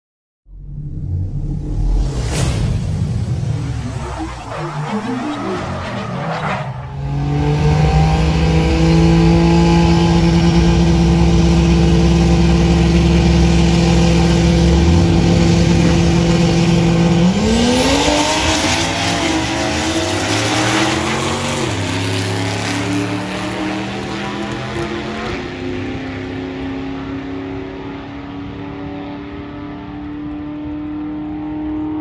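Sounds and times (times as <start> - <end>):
car engine revving and upshifting: 3.7 - 32.0.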